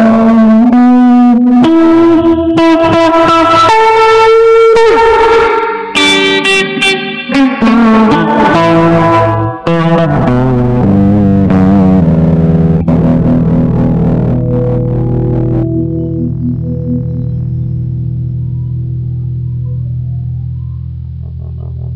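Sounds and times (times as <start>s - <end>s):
electric guitar lead line: 0.0s - 21.9s.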